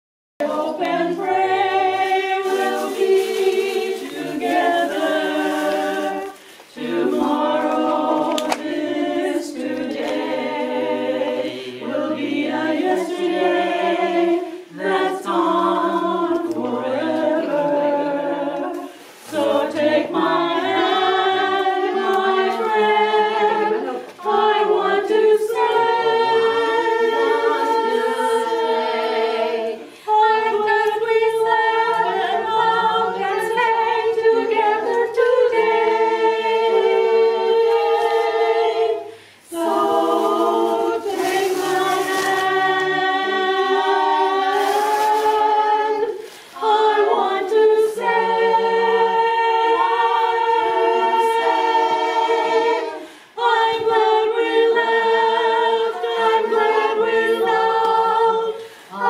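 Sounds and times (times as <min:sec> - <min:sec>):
women singing a cappella: 0:00.4 - 0:59.0.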